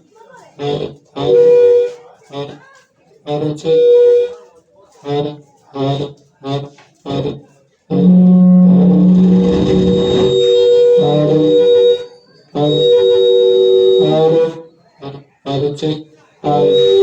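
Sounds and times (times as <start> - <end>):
speaker playing nasal music tones: 0.4 - 17.0.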